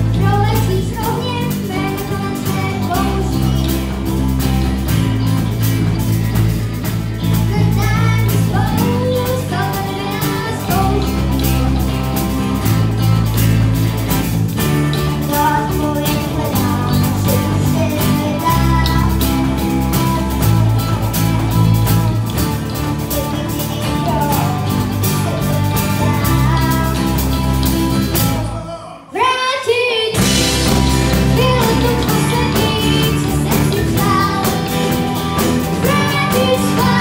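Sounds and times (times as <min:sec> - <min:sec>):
boy singing: 0:00.0 - 0:04.5, 0:07.2 - 0:13.1, 0:14.5 - 0:37.0
rock band playing: 0:00.0 - 0:28.7, 0:30.1 - 0:37.0.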